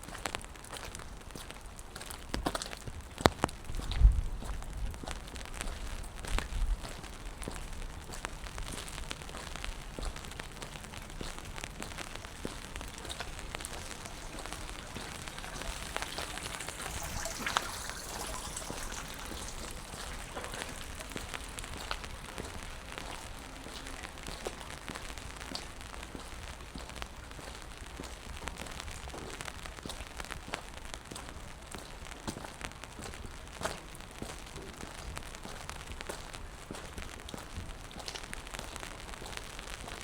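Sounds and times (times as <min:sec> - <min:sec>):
rain on wet pavement: 0:00.0 - 0:40.0.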